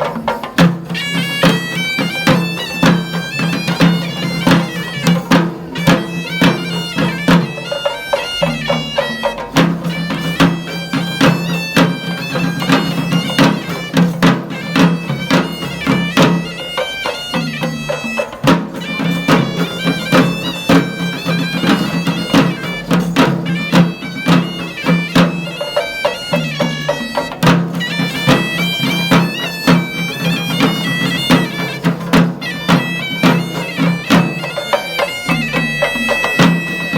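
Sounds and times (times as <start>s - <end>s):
drum strikes: 0.0s - 36.9s
shrill reed pipe melody: 0.6s - 36.9s.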